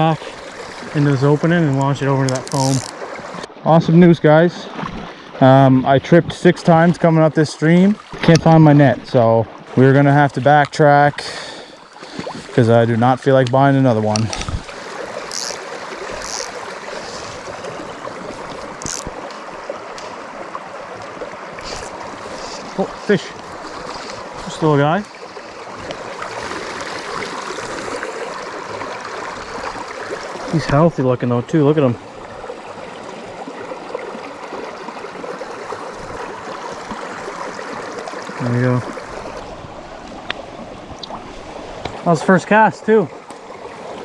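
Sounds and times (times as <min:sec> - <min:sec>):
brook water rushing over rocks: 0:00.0 - 0:44.0.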